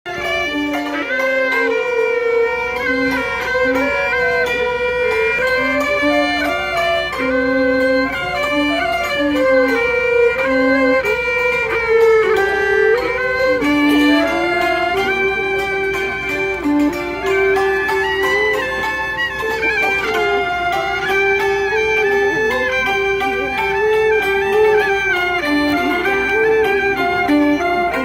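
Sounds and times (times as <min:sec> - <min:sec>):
bowed two-string fiddle melody: 0:00.0 - 0:28.0
lower held notes: 0:00.1 - 0:28.0.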